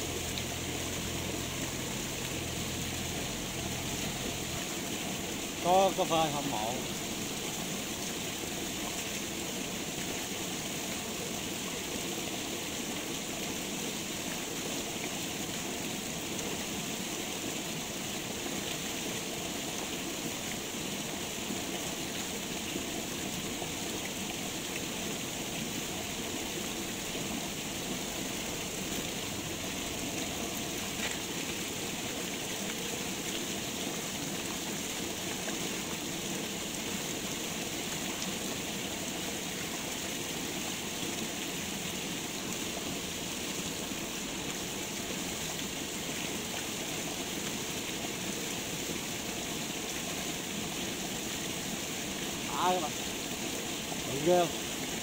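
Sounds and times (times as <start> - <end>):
steady water noise: 0.0 - 55.0.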